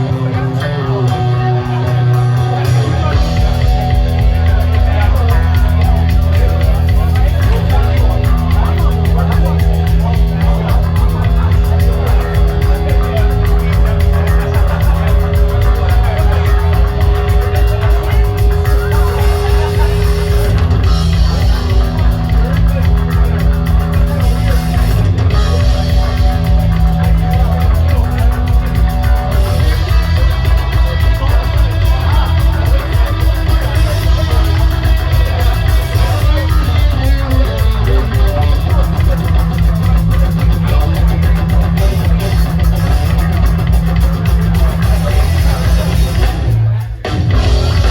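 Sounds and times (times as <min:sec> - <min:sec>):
loud rock music with guitar: 0:00.0 - 0:47.9.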